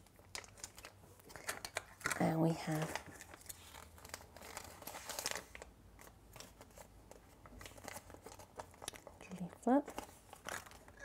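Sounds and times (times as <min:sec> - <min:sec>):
paper leaflet crinkling: 0:00.0 - 0:11.0.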